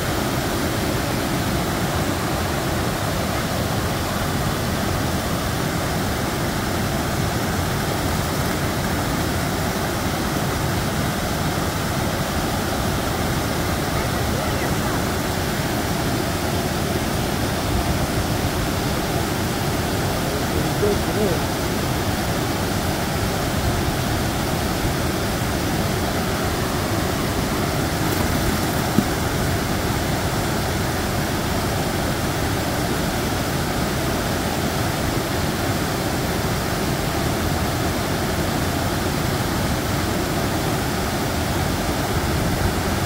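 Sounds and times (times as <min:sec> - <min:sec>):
water rushing over a dam: 0:00.0 - 0:43.0.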